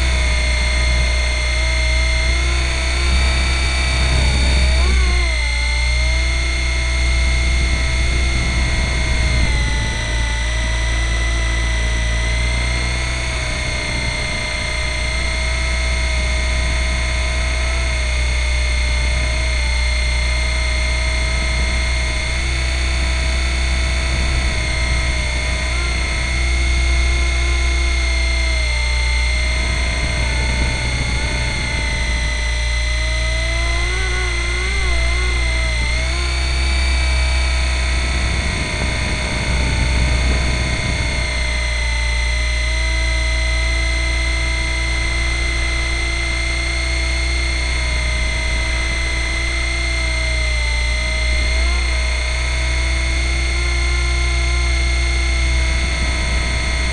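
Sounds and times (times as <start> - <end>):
high motor whine: 0.0 - 56.9
low rotor rumble: 0.0 - 56.9.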